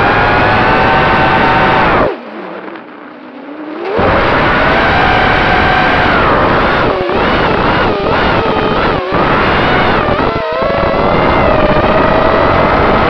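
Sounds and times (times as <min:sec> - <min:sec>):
quadcopter motors whining: 0:00.0 - 0:02.2, 0:03.4 - 0:13.0.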